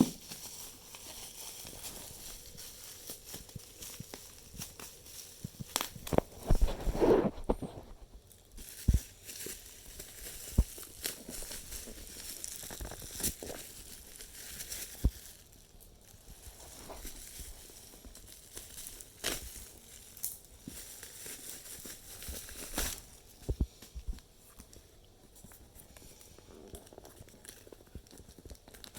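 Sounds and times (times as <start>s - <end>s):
packaging crinkling and tearing: 0.0s - 28.9s.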